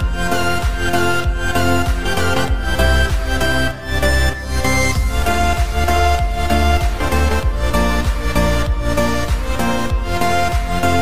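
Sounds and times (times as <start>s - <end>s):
electronic music with gliding melody: 0.0s - 11.0s.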